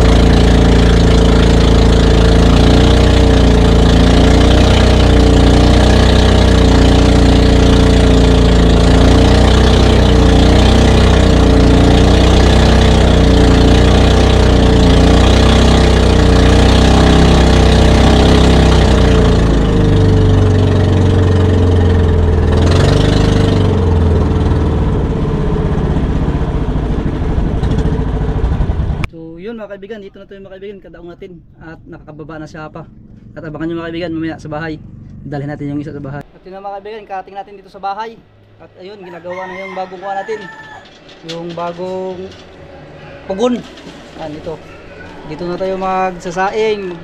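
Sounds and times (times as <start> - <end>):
boat engine running: 0.0 - 29.1, 30.1 - 47.0.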